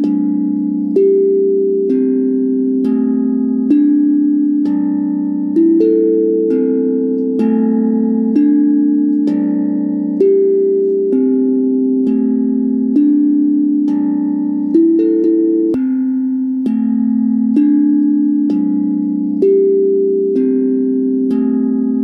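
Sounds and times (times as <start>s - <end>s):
ringing bell-like chords: 0.0s - 22.0s.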